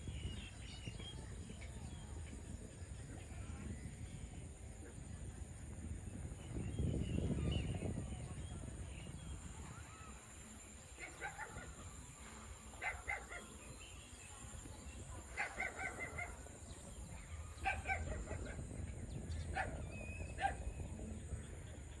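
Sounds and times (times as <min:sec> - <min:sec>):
steady low rumble: 0:00.0 - 0:12.8, 0:14.0 - 0:22.0.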